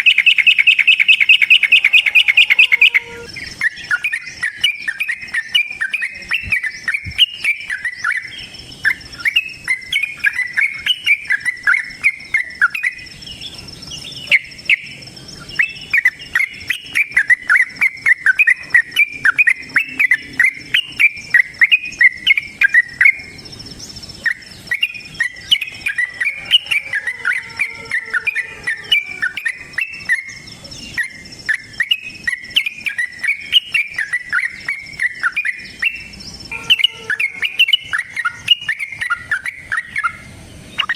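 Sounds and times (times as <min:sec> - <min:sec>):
bird chattering call: 0:00.0 - 0:13.1, 0:14.2 - 0:40.2
high insect whine: 0:00.0 - 0:39.2.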